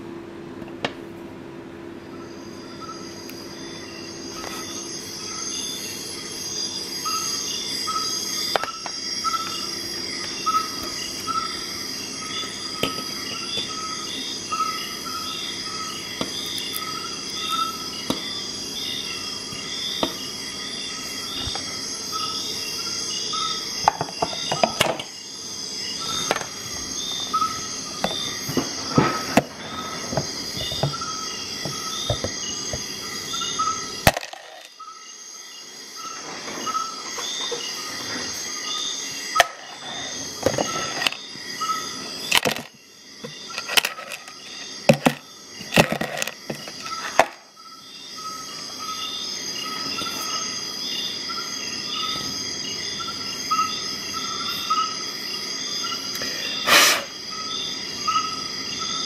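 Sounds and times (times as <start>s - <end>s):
insects chirping: 1.5s - 59.0s.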